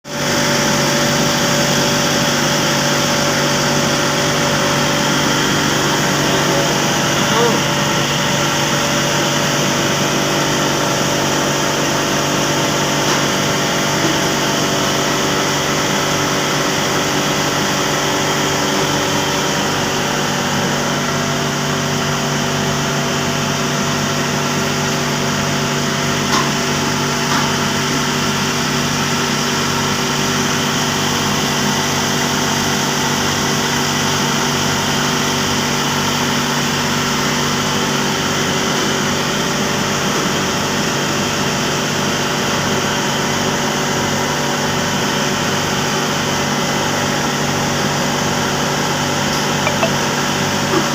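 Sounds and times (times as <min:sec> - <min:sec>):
boiler machinery humming: 0:00.1 - 0:50.9.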